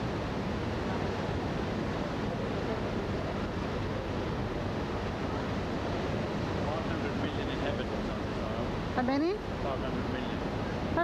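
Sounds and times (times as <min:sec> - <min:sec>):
rushing wind and water: 0:00.0 - 0:11.0.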